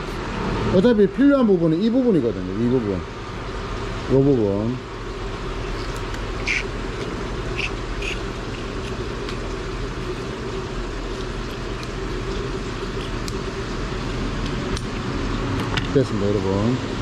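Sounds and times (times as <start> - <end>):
background hiss with low hum: 0.0 - 17.0.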